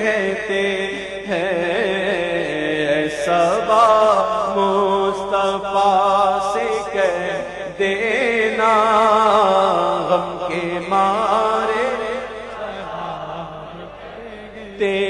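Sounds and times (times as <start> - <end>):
person singing with heavy vibrato: 0.0 - 15.0.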